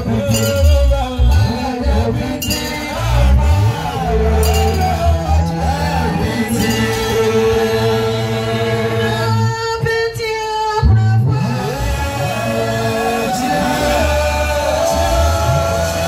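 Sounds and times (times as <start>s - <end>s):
instrumental backing with bass: 0.0s - 10.2s, 10.8s - 16.0s
several voices singing amplified: 0.0s - 16.0s.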